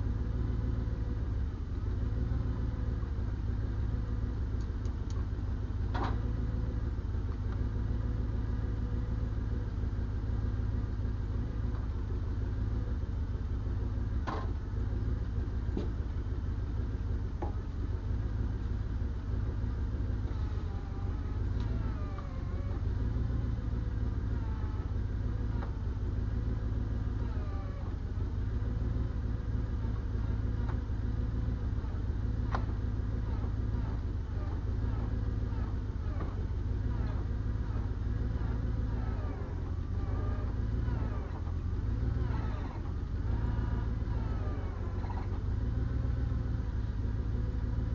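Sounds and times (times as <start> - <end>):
large diesel engine running: 0.0 - 47.9.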